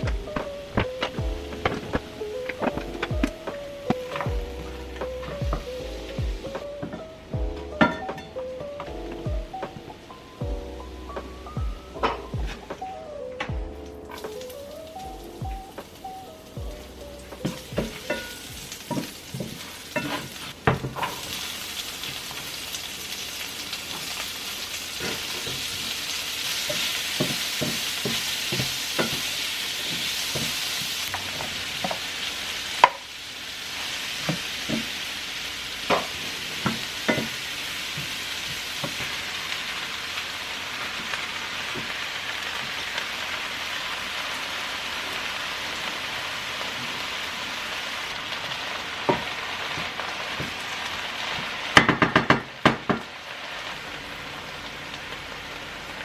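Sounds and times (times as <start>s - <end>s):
food sizzling in frying pan: 0.0s - 13.0s, 13.6s - 56.0s.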